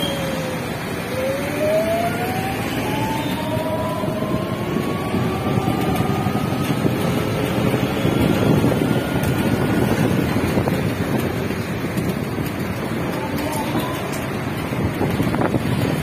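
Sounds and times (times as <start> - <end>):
motorbike engine whine: 0.0 - 16.0
road noise: 0.0 - 16.0
wind buffeting microphone: 0.6 - 16.0.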